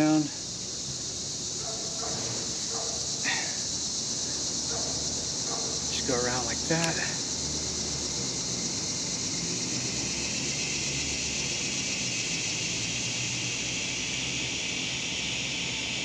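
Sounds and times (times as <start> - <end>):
insects chorus buzzing: 0.0 - 16.0.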